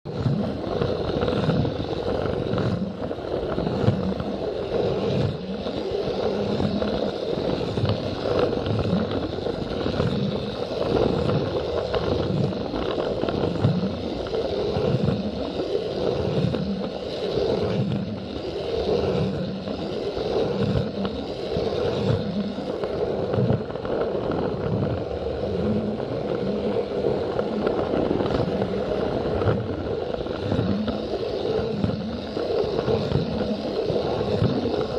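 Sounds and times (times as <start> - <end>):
toy train motor whirring: 0.1 - 25.1, 26.1 - 34.9.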